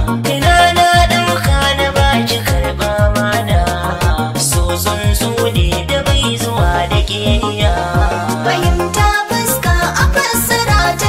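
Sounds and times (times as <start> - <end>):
pop music beat with melody: 0.0 - 11.0.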